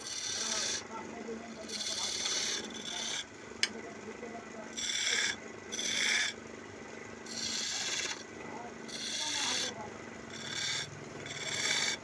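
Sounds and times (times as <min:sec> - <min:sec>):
tool scraping spinning wood: 0:00.0 - 0:03.7, 0:04.7 - 0:06.4, 0:07.2 - 0:12.0
wood lathe humming: 0:00.0 - 0:03.7, 0:04.7 - 0:06.5, 0:07.2 - 0:12.0.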